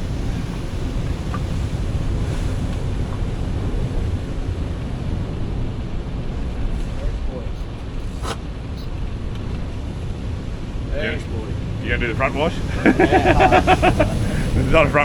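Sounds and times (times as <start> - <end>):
ocean swell breaking on rocks: 0.0 - 15.0
wind buffeting microphone: 0.0 - 15.0.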